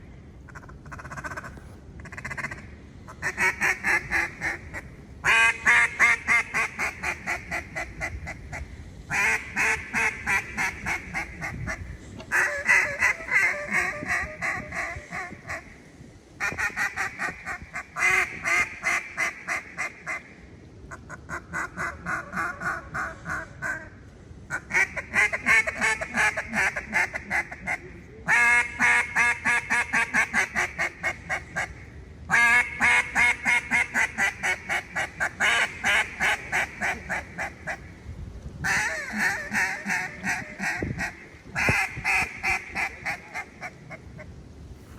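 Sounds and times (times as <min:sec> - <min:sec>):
duck call rapid quacks: 0:00.5 - 0:08.4, 0:09.1 - 0:15.7, 0:16.4 - 0:20.2, 0:24.5 - 0:37.9, 0:38.6 - 0:44.3.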